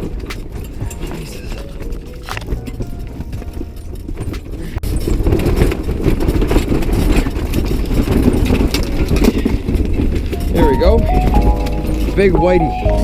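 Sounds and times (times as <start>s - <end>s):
handling knocks and bumps: 0.0s - 11.0s.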